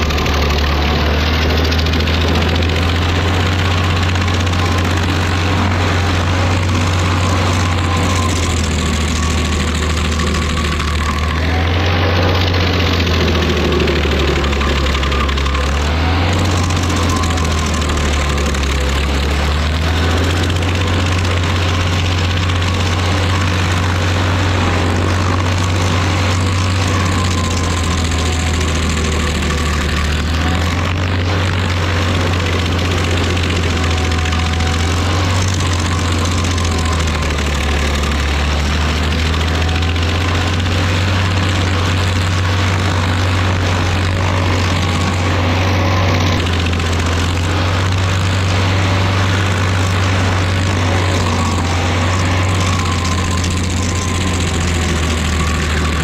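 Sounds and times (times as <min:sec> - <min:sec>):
engine drone: 0:00.0 - 0:56.0
stump grinder grinding wood: 0:00.0 - 0:56.0.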